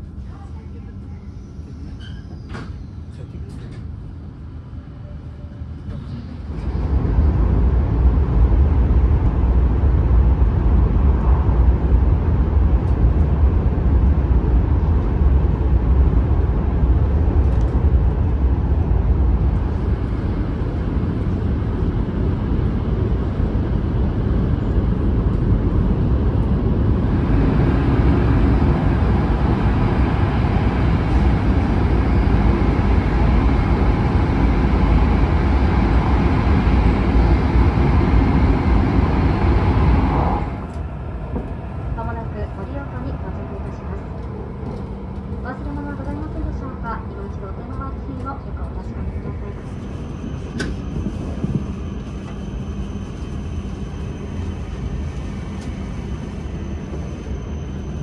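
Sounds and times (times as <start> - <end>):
train running low rumble: 0.0 - 58.0.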